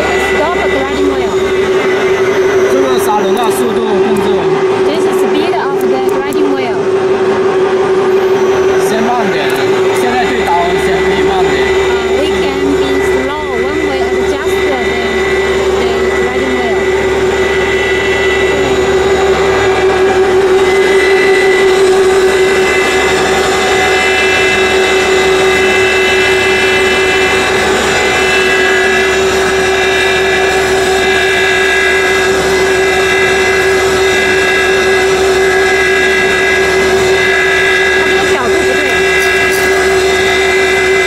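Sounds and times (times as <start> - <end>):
grinding machine motor whining: 0.0 - 41.0.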